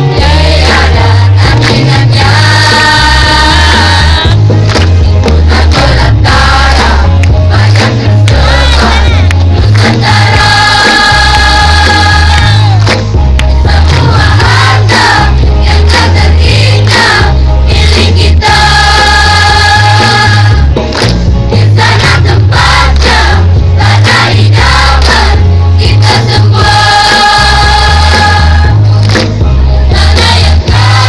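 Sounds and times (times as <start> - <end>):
choir singing: 0.0 - 4.4, 5.3 - 12.8, 13.7 - 20.8, 21.6 - 28.9, 29.8 - 31.0
heavy bass line: 0.0 - 31.0.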